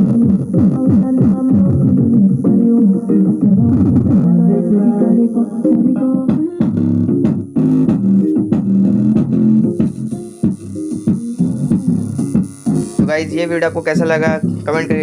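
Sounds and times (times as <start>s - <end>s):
plucked bass melody through speaker: 0.0s - 13.4s.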